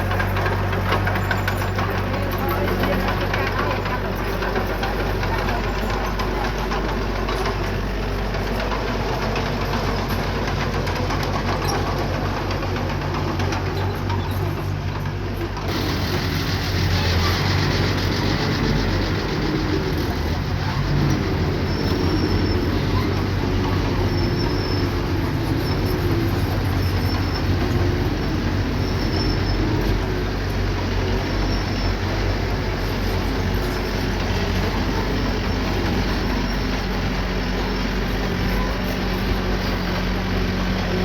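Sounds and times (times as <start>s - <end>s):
bulldozer diesel engine running: 0.0s - 41.0s
steel tracks squeaking: 0.0s - 41.0s.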